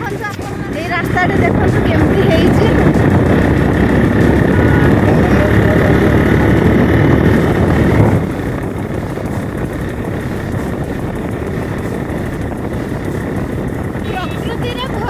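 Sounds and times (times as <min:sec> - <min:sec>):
motorcycle engine running: 0:00.0 - 0:15.0
rushing wind and road noise: 0:00.0 - 0:15.0.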